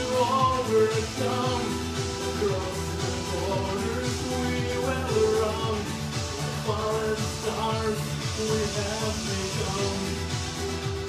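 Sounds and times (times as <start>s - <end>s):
electronic kick drum beat: 0.0s - 11.0s
synthesizer chords and melody: 0.0s - 11.0s.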